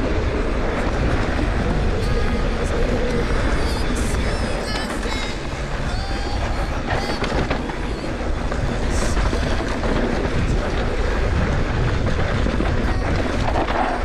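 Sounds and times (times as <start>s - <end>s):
rumbling bike tyres and frame: 0.0s - 14.0s
wind rushing on microphone: 0.0s - 14.0s.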